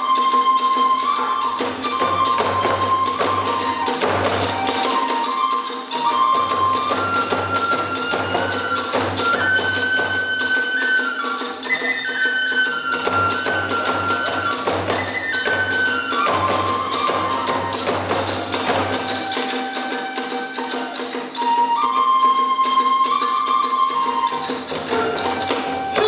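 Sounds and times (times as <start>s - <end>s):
bamboo flute melody: 0.0s - 26.0s
small hand cymbals: 0.0s - 26.0s.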